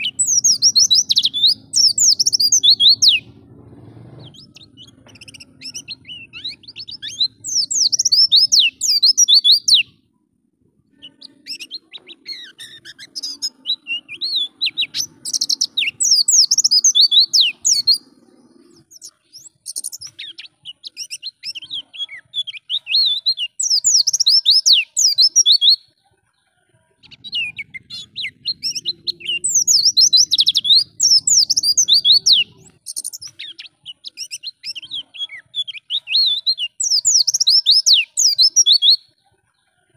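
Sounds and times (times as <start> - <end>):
bird twittering song: 0.0 - 10.1, 10.8 - 39.8.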